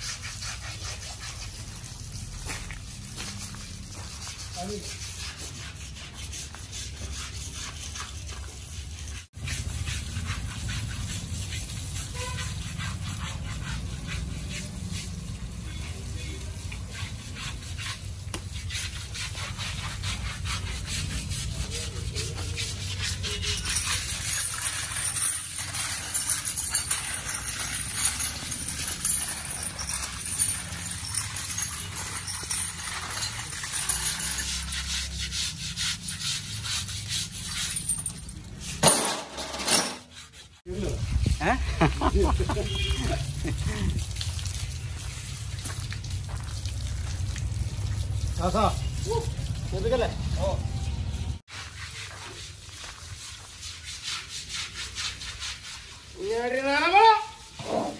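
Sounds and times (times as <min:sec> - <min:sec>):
water running from hoses: 0:00.0 - 0:38.7, 0:40.6 - 0:57.7
scrubbing wet elephant hide: 0:00.0 - 0:38.8, 0:40.1 - 0:57.9.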